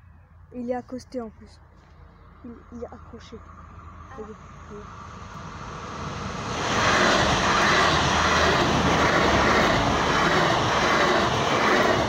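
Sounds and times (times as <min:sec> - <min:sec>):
train passing: 0:02.0 - 0:12.0.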